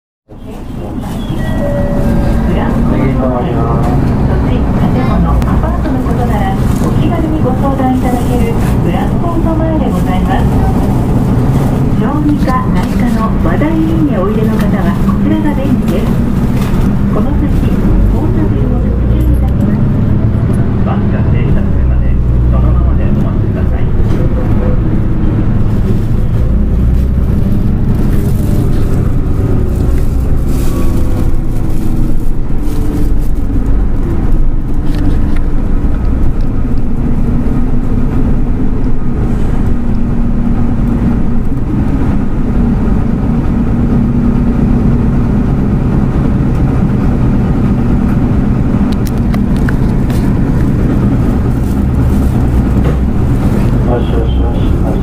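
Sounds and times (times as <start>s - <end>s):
bus engine drone: 0.3s - 55.0s
road rumble: 0.3s - 55.0s.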